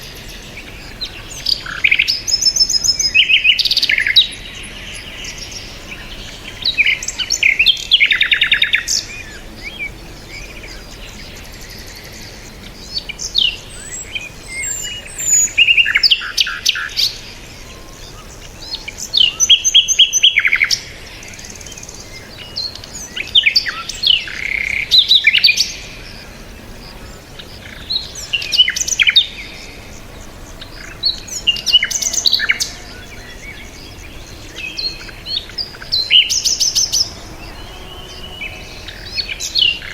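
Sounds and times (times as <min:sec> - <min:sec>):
faint outdoor background: 0:00.0 - 0:39.9
songbirds chirping and singing: 0:00.0 - 0:39.9.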